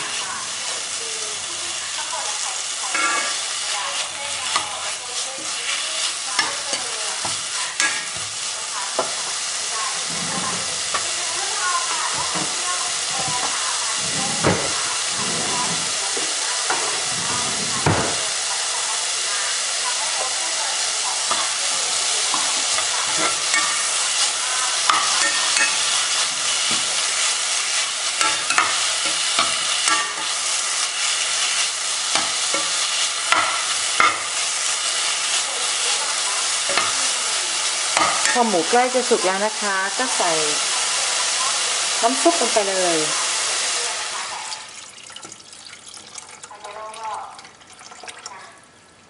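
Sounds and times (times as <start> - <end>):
meat sizzling in a pot: 0.0 - 47.6.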